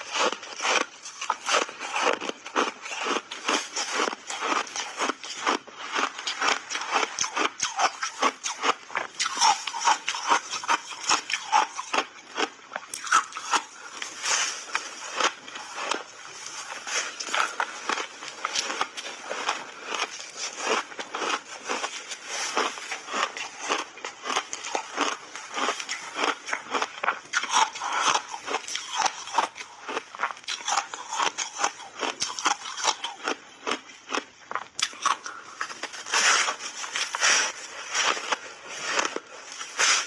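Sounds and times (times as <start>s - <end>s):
ice being chewed: 0.0s - 40.0s.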